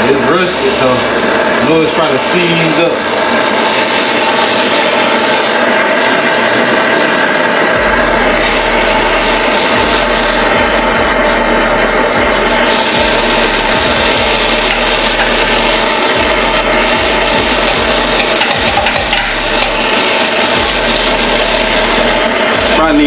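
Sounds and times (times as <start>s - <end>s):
gas torch flame roaring: 0.0s - 23.0s.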